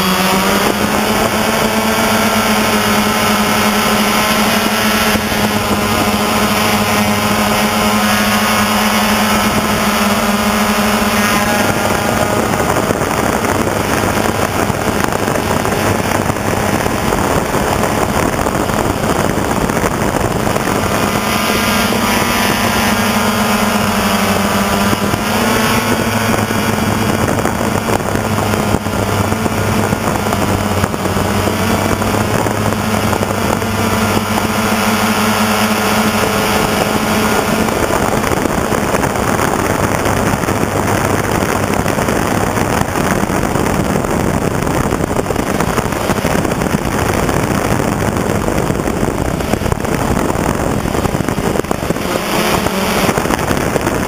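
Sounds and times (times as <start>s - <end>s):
drone propellers buzzing: 0.0s - 54.0s
rough rushing noise: 0.0s - 54.0s.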